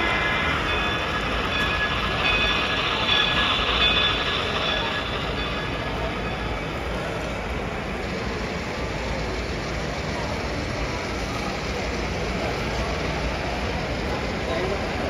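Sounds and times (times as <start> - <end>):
busy hall noise: 0.0 - 15.0
model train running on track: 0.0 - 15.0.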